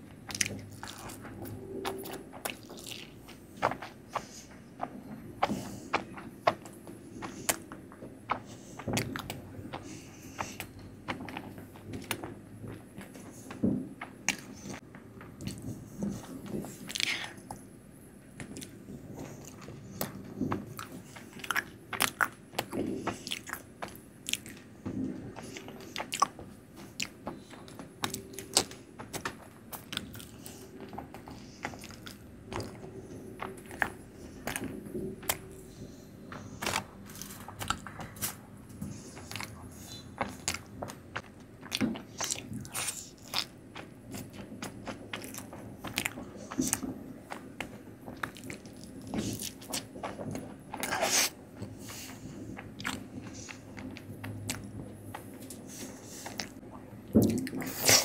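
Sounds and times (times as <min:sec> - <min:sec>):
chewing and biting sweets: 0:00.0 - 0:17.6, 0:18.4 - 0:58.0.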